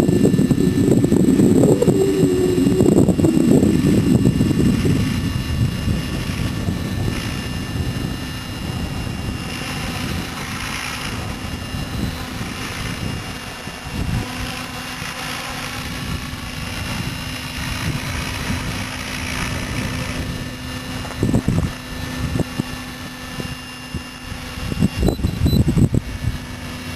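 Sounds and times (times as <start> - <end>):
toy helicopter rotor humming: 0.0 - 26.9
wind rumbling on microphone: 0.0 - 26.9.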